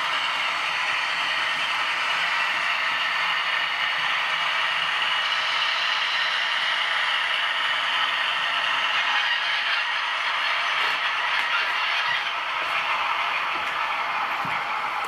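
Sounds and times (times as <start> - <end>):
model train motor whirring: 0.0 - 15.0
wheels rolling on track: 0.0 - 15.0.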